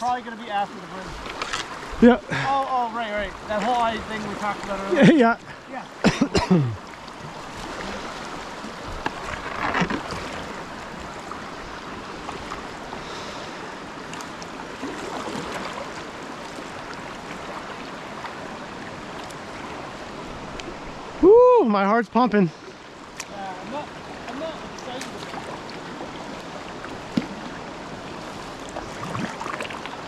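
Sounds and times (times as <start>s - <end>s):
whitewater rapid rushing: 0.0s - 30.0s.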